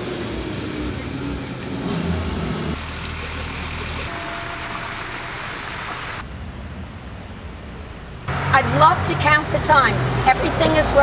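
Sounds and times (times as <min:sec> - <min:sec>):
street ambience hiss: 0:00.0 - 0:11.0.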